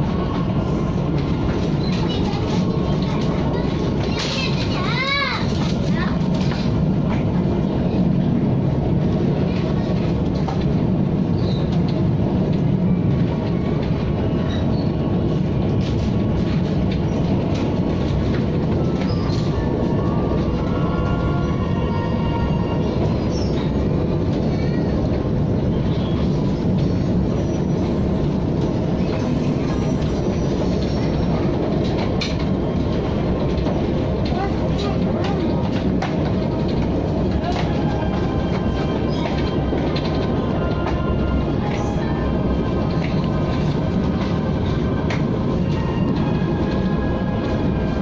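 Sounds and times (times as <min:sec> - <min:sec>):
electric train rumbling: 0:00.0 - 0:48.0.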